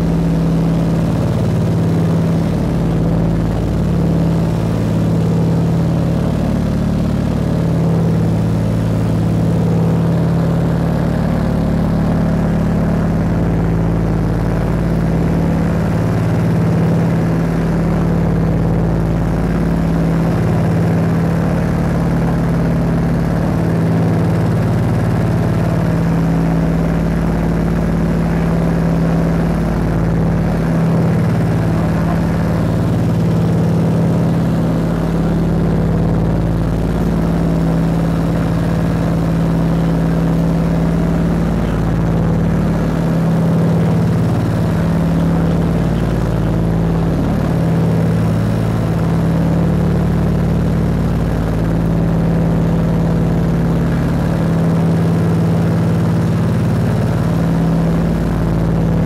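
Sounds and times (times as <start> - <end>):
propeller aircraft engine drone: 0.0 - 59.0.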